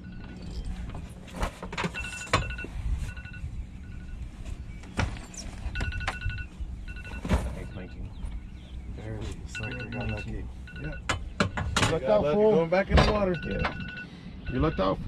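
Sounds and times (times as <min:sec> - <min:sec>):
short electronic beeps: 0:00.0 - 0:01.1, 0:01.9 - 0:11.7, 0:13.1 - 0:15.0.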